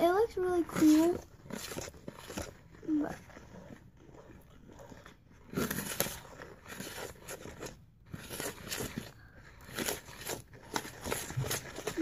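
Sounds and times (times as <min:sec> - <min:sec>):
spoon scraping a bowl: 0:00.3 - 0:12.0.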